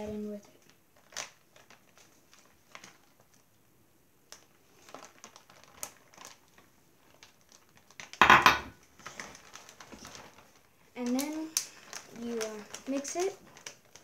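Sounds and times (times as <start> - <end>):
plastic bag crinkling: 0.1 - 3.6, 4.3 - 14.0.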